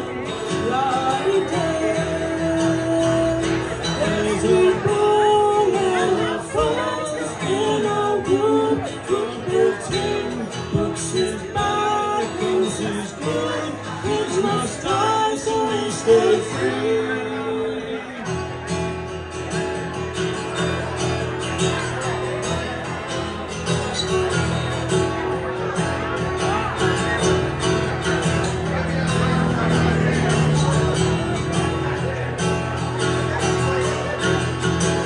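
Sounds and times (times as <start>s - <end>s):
acoustic guitar: 0.0s - 35.0s.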